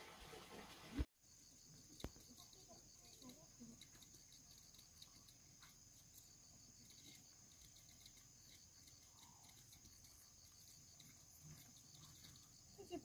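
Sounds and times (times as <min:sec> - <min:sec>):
faint insects trilling: 0:01.2 - 0:13.0
light regular pulsing: 0:01.3 - 0:13.0.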